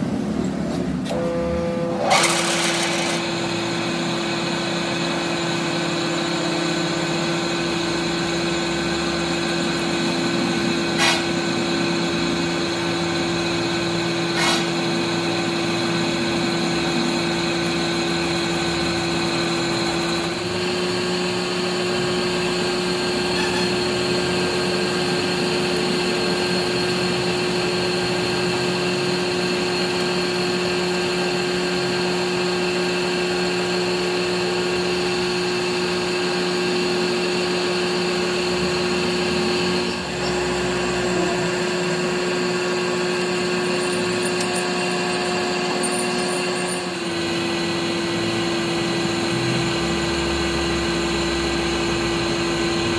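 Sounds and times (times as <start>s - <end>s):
motor hum: 0.0s - 52.9s
metal lathe cutting steel: 1.1s - 52.9s.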